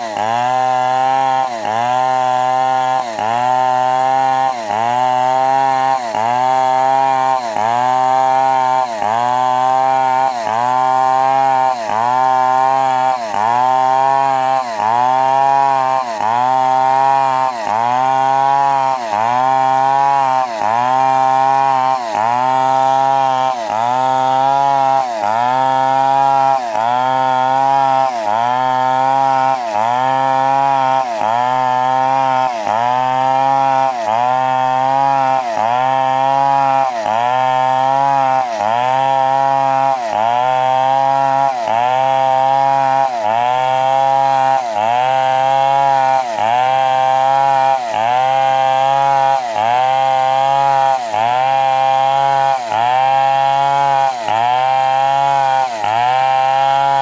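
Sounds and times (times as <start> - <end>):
chainsaw cutting under load: 0.0 - 57.0.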